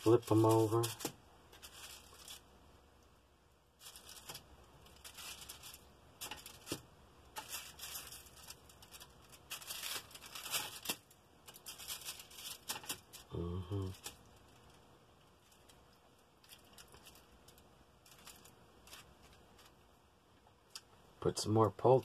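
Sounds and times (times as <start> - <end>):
aluminium foil crinkling: 0.0 - 2.5, 3.8 - 19.8
soft handling sounds: 0.0 - 3.2, 3.8 - 21.6.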